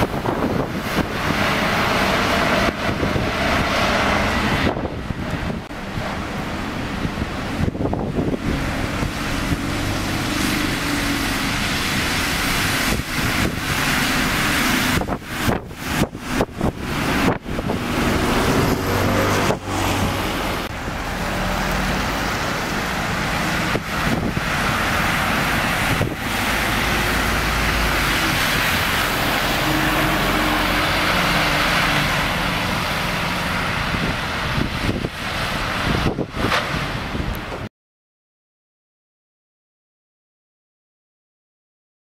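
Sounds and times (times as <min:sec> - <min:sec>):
wind on microphone: 0:00.0 - 0:20.7, 0:21.9 - 0:37.7
buses passing by: 0:00.0 - 0:37.7
road traffic: 0:00.0 - 0:37.7.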